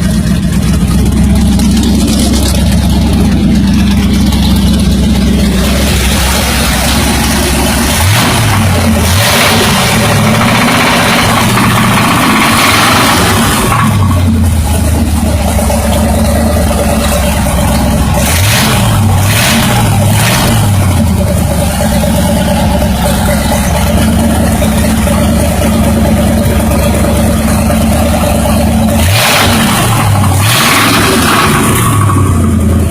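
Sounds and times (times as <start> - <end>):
engine throttle blips: 0.0 - 32.9
knocking car engine: 0.0 - 32.9.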